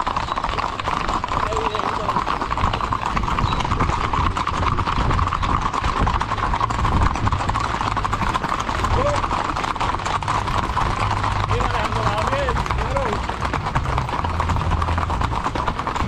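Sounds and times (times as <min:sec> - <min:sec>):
horses' hooves clip-clopping: 0:00.0 - 0:16.0.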